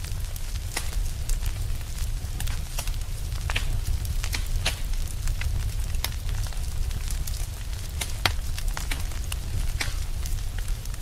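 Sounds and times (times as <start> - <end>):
fire crackling and popping: 0.0 - 11.0
low rumble of flames: 0.0 - 11.0.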